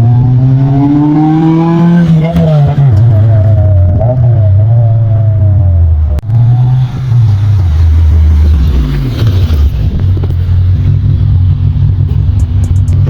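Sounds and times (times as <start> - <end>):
car engine and exhaust running: 0.0 - 13.0.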